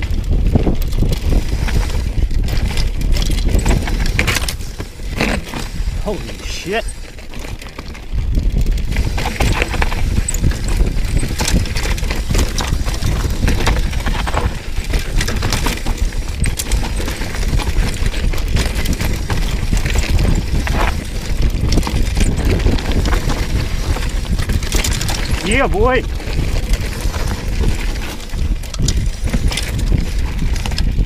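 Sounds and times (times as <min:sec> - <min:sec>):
bike rattling: 0:00.0 - 0:31.0
wind on microphone: 0:00.0 - 0:31.0
tyres crunching over gravel: 0:00.2 - 0:31.0.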